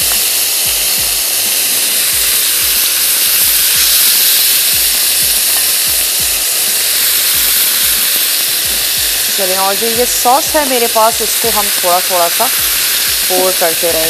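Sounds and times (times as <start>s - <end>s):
chicken sizzling on a grill pan: 0.0s - 14.0s.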